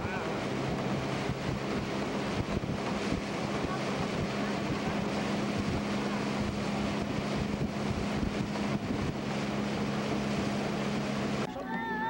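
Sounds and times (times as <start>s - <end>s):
motorboat engine drone: 0.0s - 12.0s
rushing water: 0.0s - 12.0s
wind noise: 0.5s - 11.4s.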